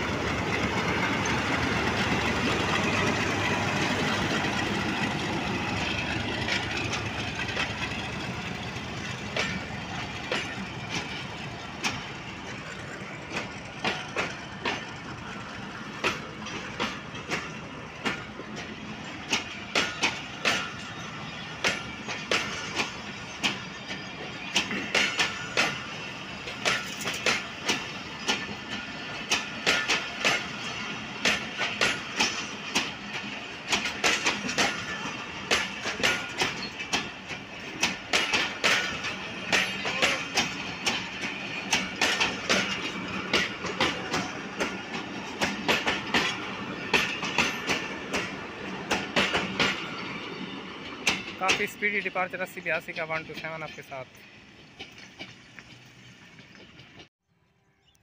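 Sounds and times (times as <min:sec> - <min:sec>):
train wheels clattering over rail joints: 0:00.0 - 0:57.1
rush of moving train: 0:00.0 - 0:57.7.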